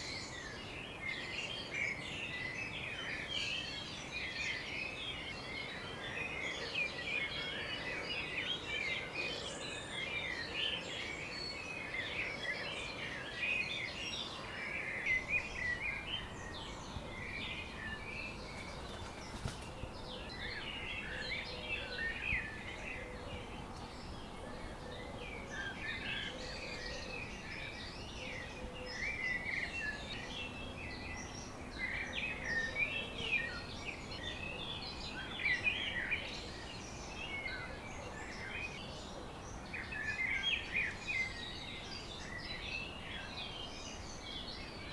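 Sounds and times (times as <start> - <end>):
birds chirping and singing: 0.0 - 44.9.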